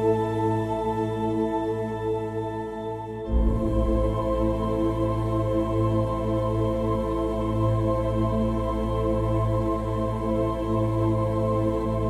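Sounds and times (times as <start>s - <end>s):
ambient new-age music: 0.0s - 12.0s.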